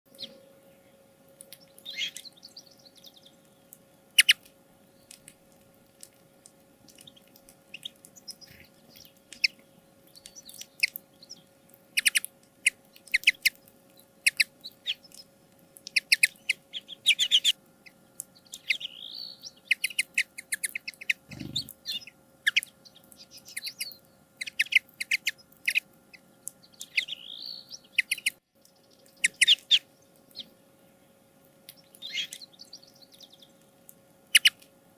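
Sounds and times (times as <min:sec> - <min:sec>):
birds chirping and twittering: 0:00.1 - 0:34.6
faint steady hum: 0:00.1 - 0:34.9.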